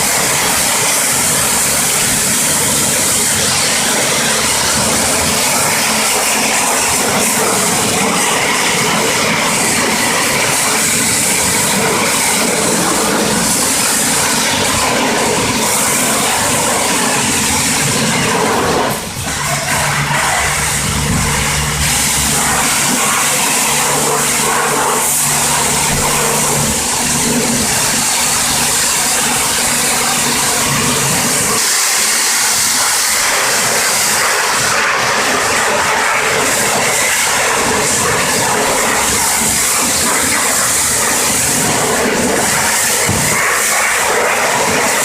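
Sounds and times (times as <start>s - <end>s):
high-pressure water jet spraying: 0.0s - 45.0s.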